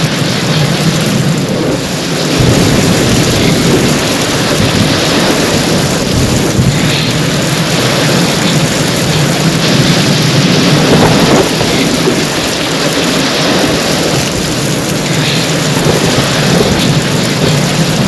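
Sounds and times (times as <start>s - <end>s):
heavy rain pouring: 0.0s - 18.0s
low rolling thunder: 0.0s - 18.0s.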